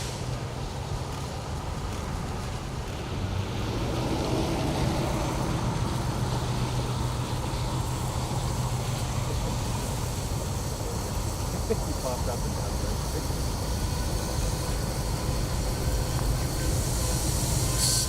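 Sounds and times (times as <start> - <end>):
diesel locomotive engine drone: 0.0 - 18.0.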